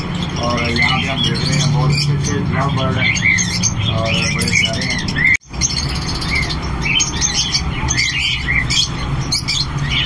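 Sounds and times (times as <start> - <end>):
lovebirds chirping: 0.0 - 10.0.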